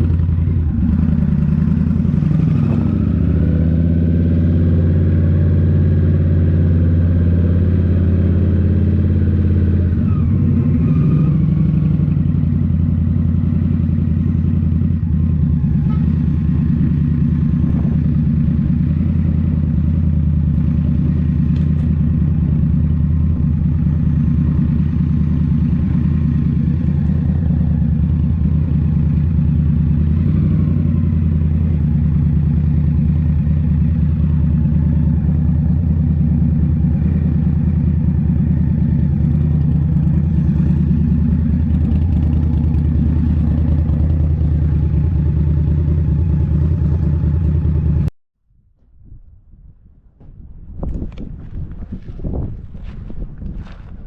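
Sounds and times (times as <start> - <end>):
motorcycle engine running steadily: 0.0 - 48.1, 48.9 - 54.0.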